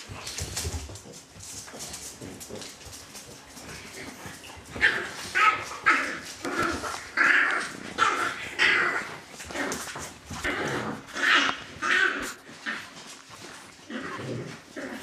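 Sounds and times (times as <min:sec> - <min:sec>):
dogs yapping and barking: 0:01.8 - 0:15.0.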